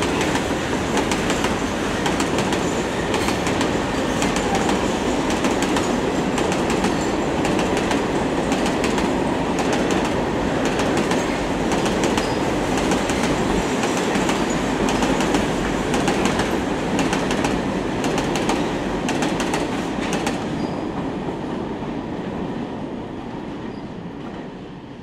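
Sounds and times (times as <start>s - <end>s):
train wheels clicking over rails: 0.0s - 21.2s
freight train rumble: 0.0s - 25.0s.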